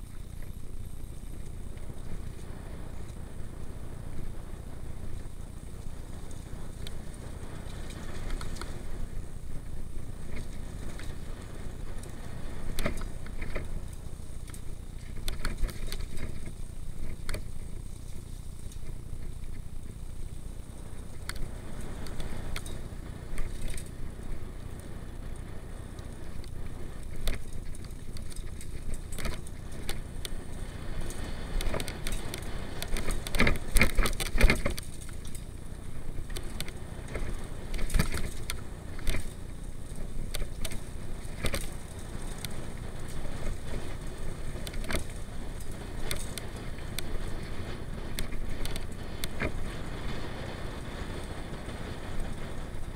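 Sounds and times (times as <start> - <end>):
bike clicks and rattles: 0.0 - 52.9
tyres rumbling on dirt: 0.0 - 52.9.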